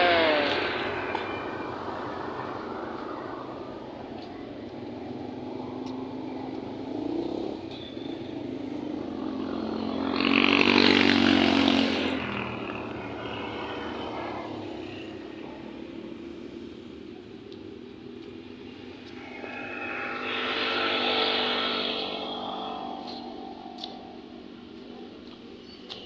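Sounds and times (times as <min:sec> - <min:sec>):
vehicle passing by: 0:00.0 - 0:25.6
faint steady traffic: 0:00.0 - 0:26.0.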